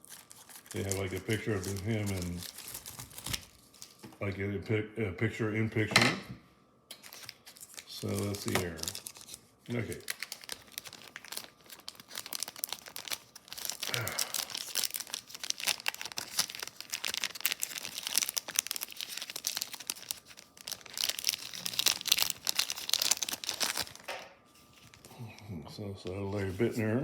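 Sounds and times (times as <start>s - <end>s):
cards rustling: 0.0s - 4.1s, 6.9s - 25.2s
plastic wrapper crinkling and tearing: 0.0s - 4.1s, 6.9s - 25.3s.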